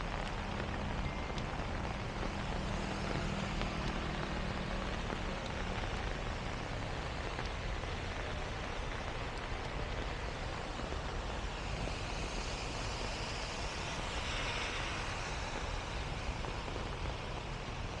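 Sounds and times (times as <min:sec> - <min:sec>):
heavy rain: 0:00.0 - 0:18.0
vehicle passing on wet road: 0:00.0 - 0:18.0.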